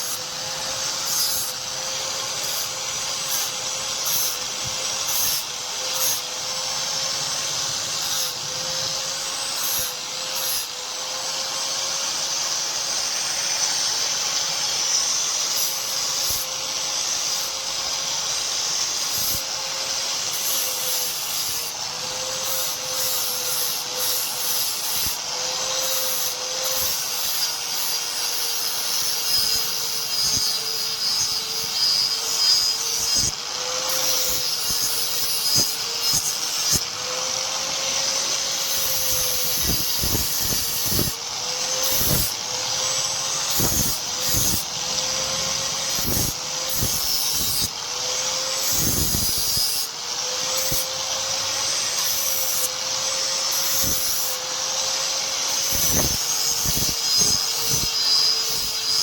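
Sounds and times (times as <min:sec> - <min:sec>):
electric grinder whining: 0:00.0 - 0:59.0
steel scraping on grinder: 0:00.0 - 0:59.0.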